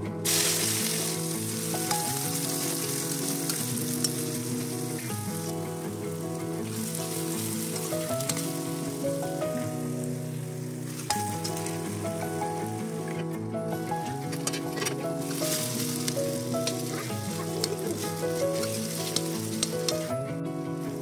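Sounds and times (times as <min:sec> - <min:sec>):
background music: 0:00.0 - 0:21.0
food sizzling in a pan: 0:00.2 - 0:13.1, 0:15.2 - 0:20.1.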